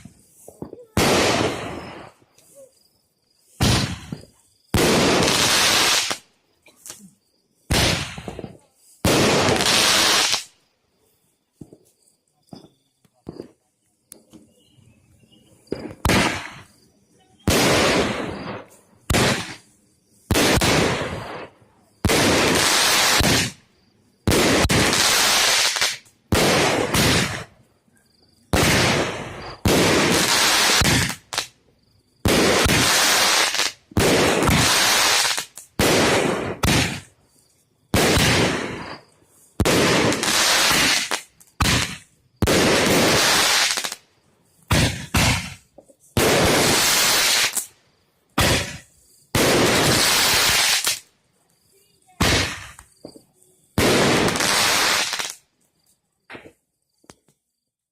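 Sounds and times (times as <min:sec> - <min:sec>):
fireworks bursting: 0:00.0 - 0:10.6, 0:11.2 - 0:27.7, 0:28.4 - 0:55.5.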